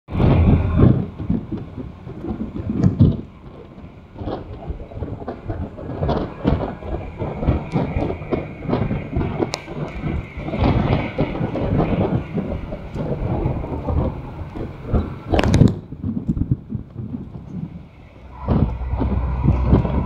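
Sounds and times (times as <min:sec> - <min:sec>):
vehicle road rumble: 0:00.1 - 0:20.0
wind buffeting microphone: 0:00.1 - 0:20.0.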